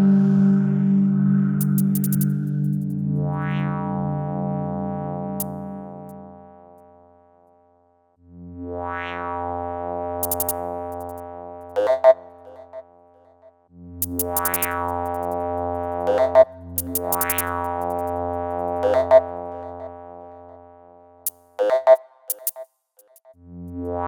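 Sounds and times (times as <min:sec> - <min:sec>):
synth chords with filter sweep: 0:00.0 - 0:07.0, 0:08.3 - 0:13.1, 0:13.8 - 0:20.9, 0:23.5 - 0:24.0.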